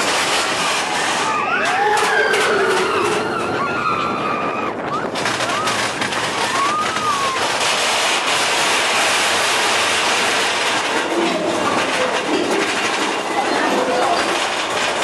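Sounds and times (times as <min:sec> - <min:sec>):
roller coaster cars rattling: 0:00.0 - 0:15.0.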